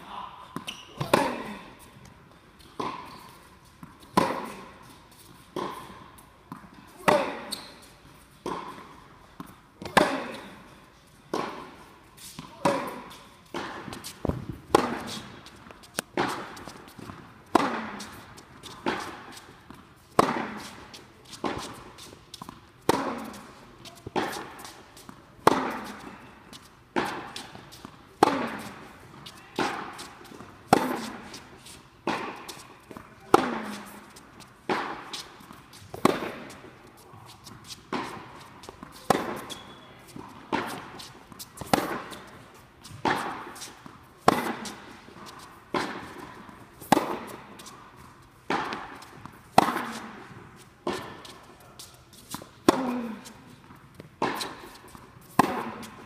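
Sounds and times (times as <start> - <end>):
tennis ball struck by rackets: 0.6 - 1.6, 3.8 - 4.7, 5.5 - 7.6, 8.4 - 10.6, 11.3 - 56.0.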